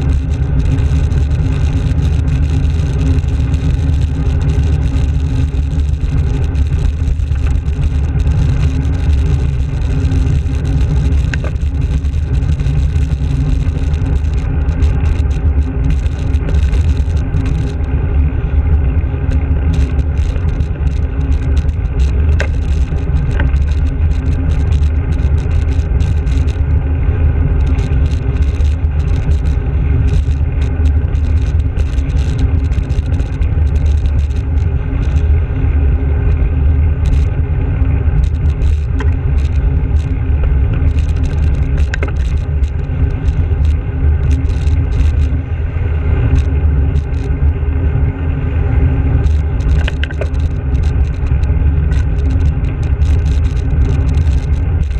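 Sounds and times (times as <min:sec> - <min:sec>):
small clicks: 0:00.0 - 0:18.3, 0:19.3 - 0:26.8, 0:27.6 - 0:35.3, 0:37.0 - 0:37.4, 0:38.2 - 0:45.4, 0:46.2 - 0:47.3, 0:49.2 - 0:54.9
wind and road noise: 0:00.0 - 0:54.9.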